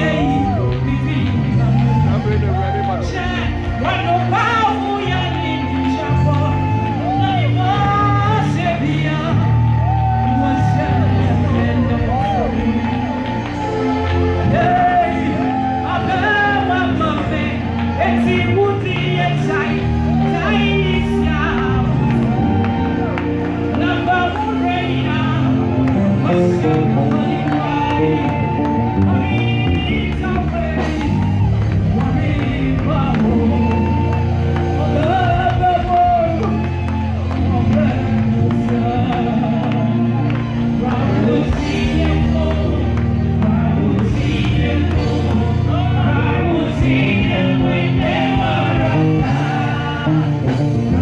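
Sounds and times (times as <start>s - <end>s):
amplified backing music: 0.0s - 51.0s.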